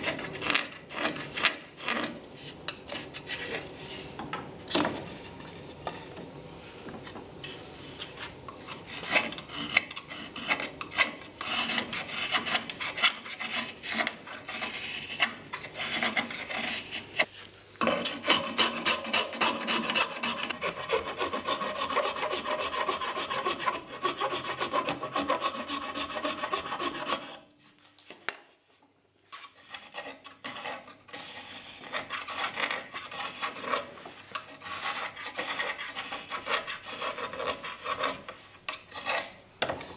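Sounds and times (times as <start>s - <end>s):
knife scraping wood: 0.0s - 4.2s, 7.4s - 27.5s, 29.3s - 39.9s.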